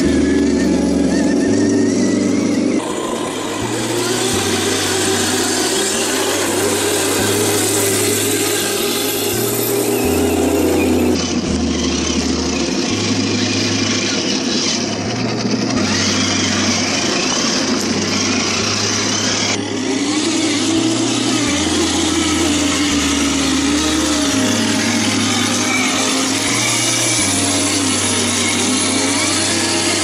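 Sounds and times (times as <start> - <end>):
electric motor and gear whine: 0.0 - 30.0
low bass line: 0.0 - 30.0.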